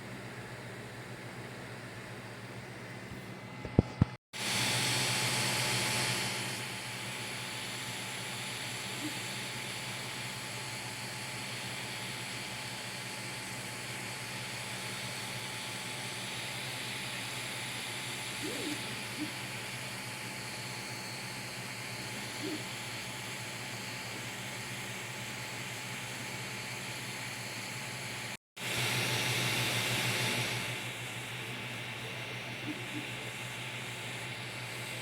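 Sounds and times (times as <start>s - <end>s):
three d printer fans and motors whirring: 0.0s - 35.0s.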